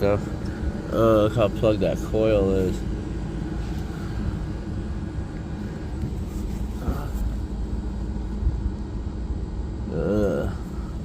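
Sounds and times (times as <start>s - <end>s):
air conditioning unit rumbling: 0.0s - 11.0s.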